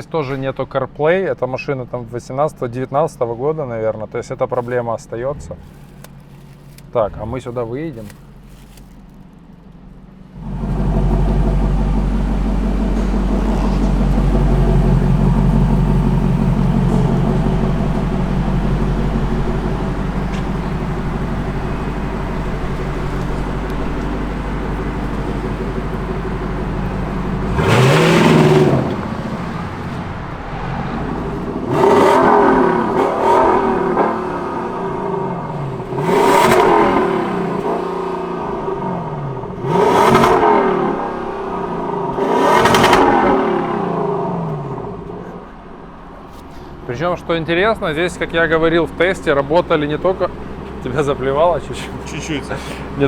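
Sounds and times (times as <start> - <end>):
car engine idling and revving: 4.0 - 53.0.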